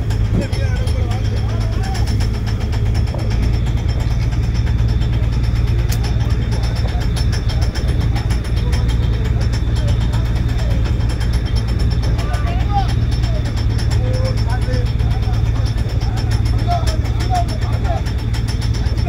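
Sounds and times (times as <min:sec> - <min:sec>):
boat engine humming: 0:00.0 - 0:19.0
faint voices: 0:00.0 - 0:19.0.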